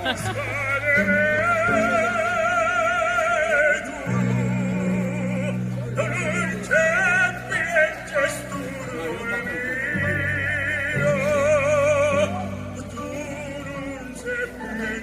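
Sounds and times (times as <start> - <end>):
operatic singer with vibrato: 0.0 - 15.0.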